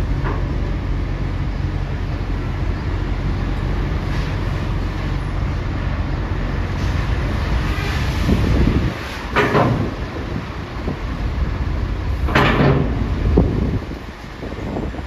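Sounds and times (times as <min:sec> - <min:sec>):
diesel engines rumbling: 0:00.0 - 0:15.0.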